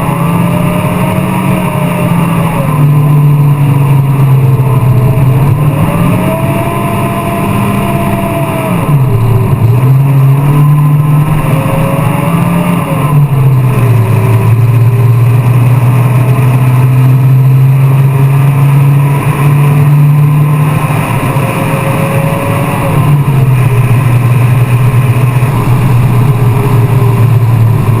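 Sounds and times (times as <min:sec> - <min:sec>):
car engine running hard: 0:00.0 - 0:28.0.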